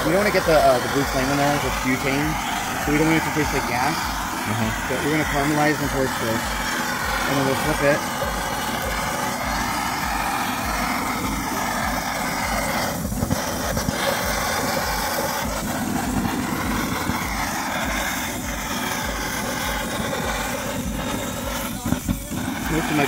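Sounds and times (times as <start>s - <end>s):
blowtorch flame hissing: 0.0s - 23.0s.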